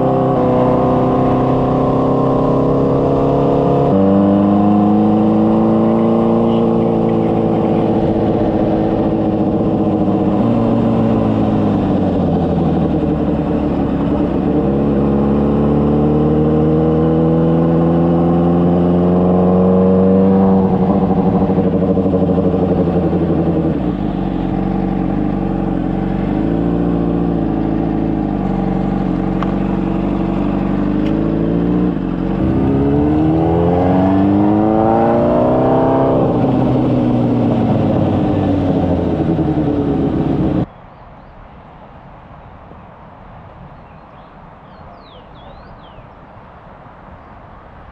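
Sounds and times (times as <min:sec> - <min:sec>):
motorcycle engine accelerating: 0:00.0 - 0:40.7.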